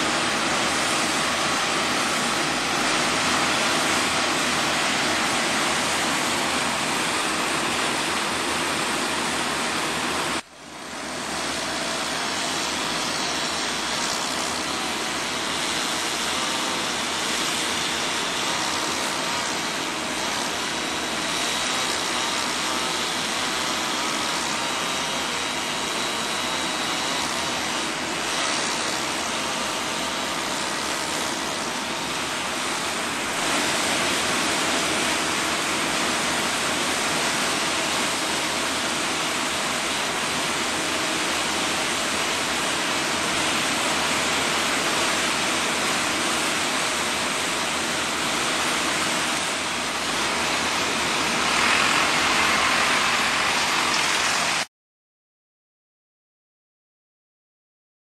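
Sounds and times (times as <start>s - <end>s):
heavy equipment engine running: 0.0s - 54.7s.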